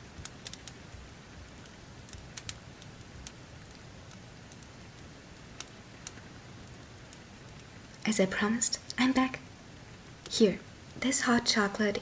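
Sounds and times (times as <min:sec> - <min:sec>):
fire crackling and popping: 0:00.0 - 0:12.0
soft hiss of fire: 0:00.0 - 0:12.0.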